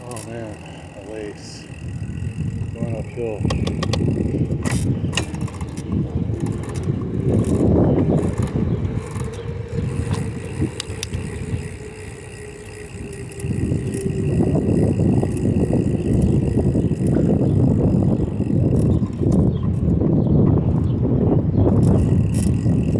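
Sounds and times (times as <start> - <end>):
bicycle tyres on pavement: 0.0 - 22.9
wind rumbling on microphone: 0.0 - 22.9.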